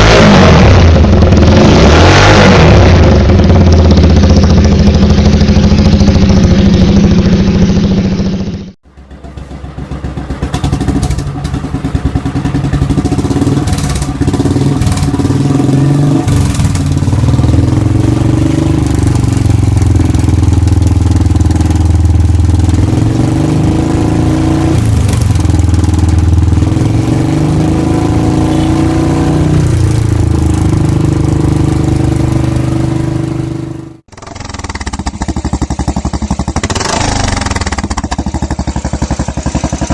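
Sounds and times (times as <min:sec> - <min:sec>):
motorcycle throttle revving: 0:00.0 - 0:39.9
motorcycle exhaust thumping: 0:02.8 - 0:24.0, 0:24.6 - 0:39.9.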